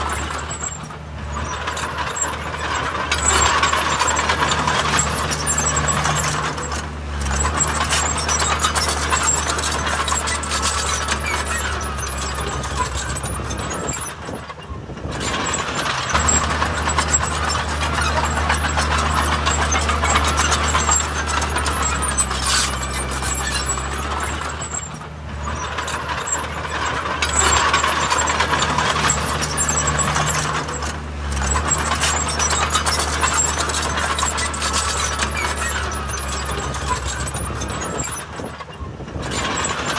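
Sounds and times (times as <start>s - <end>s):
heavy diesel machinery engine: 0.0s - 39.9s
metallic clanking and rattling: 0.0s - 39.9s.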